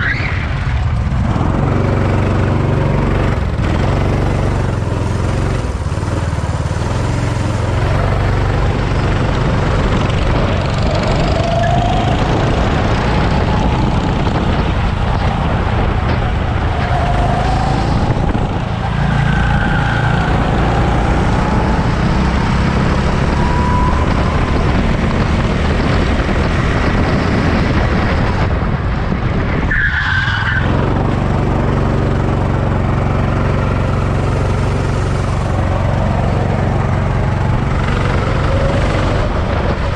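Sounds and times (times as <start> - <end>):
road noise: 0.0 - 39.9
car engine running: 0.8 - 29.6, 30.9 - 39.9.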